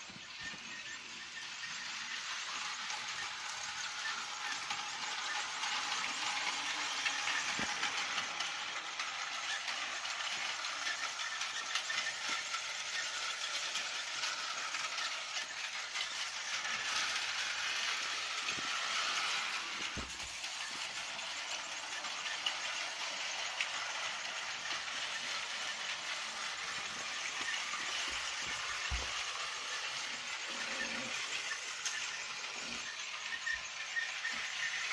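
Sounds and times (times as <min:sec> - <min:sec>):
toy train motor whirring: 0:00.0 - 0:34.9.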